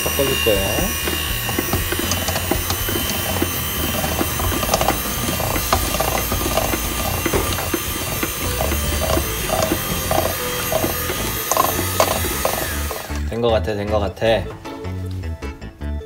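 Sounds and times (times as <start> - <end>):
beaters clicking against bowl: 0.0 - 13.3
electric hand mixer running: 0.0 - 13.4.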